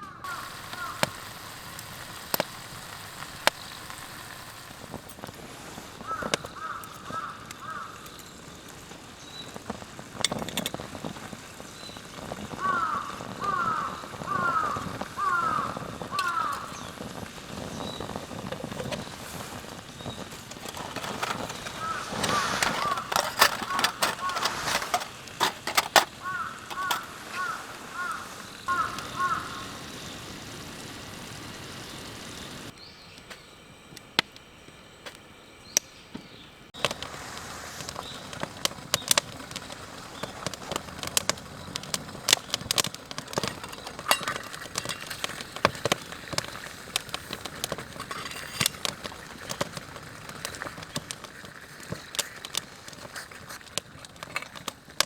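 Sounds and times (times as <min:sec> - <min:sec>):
campfire crackling and popping: 0:00.2 - 0:32.8, 0:36.8 - 0:55.0.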